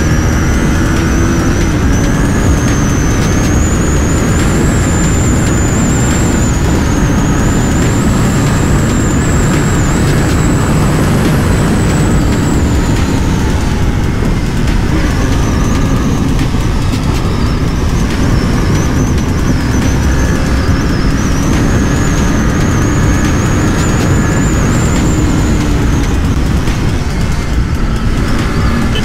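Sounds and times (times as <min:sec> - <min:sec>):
motorcycle engine running: 0:00.0 - 0:29.0
wind rush on microphone: 0:00.0 - 0:29.0.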